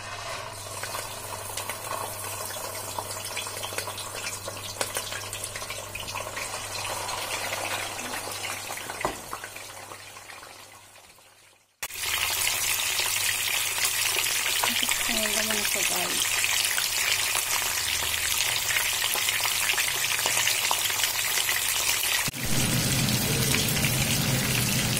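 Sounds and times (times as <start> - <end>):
fish sizzling in hot oil: 0.0 - 24.9.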